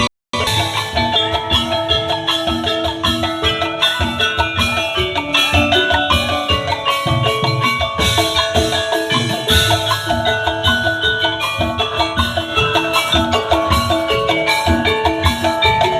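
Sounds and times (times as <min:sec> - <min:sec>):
bamboo percussion ensemble: 0:00.0 - 0:15.9.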